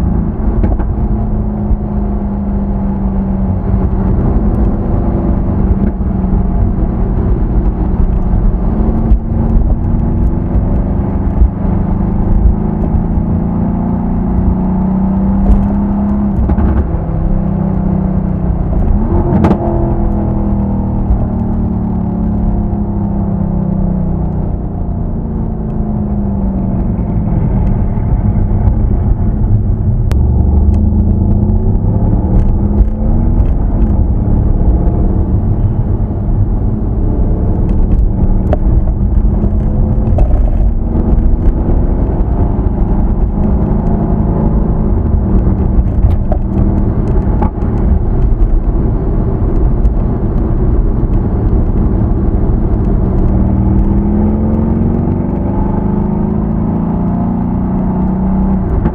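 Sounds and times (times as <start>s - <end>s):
car engine revving while driving: 0.0s - 58.9s.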